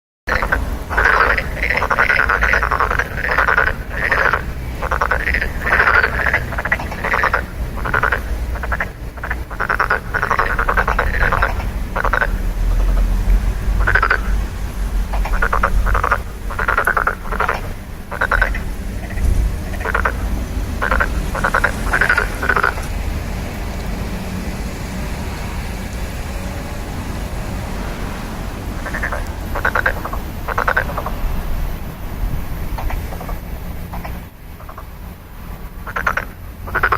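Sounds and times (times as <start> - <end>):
frogs croaking: 0.3 - 36.9
steady low rumble: 0.3 - 36.9.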